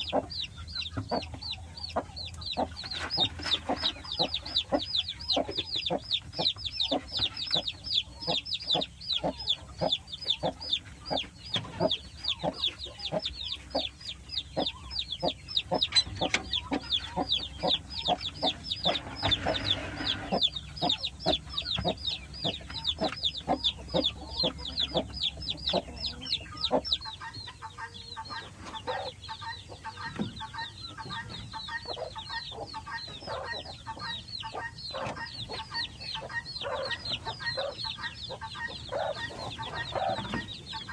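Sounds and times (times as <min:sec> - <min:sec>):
chickens calling: 0:00.0 - 0:40.9
chickens clucking: 0:00.0 - 0:40.9.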